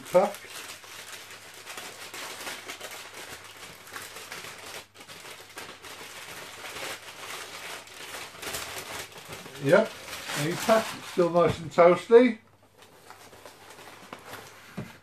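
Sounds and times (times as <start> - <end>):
paper rustling and crinkling: 0.0 - 11.8, 12.6 - 15.0.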